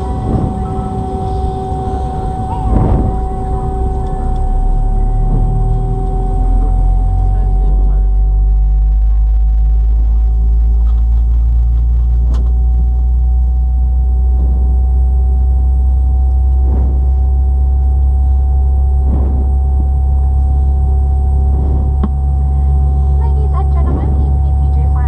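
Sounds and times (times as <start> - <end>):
airplane cabin rumble: 0.0 - 25.0
constant whine: 0.0 - 25.0.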